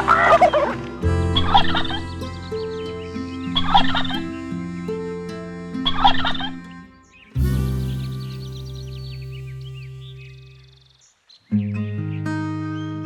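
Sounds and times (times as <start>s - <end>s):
background piano music: 0.0s - 10.6s.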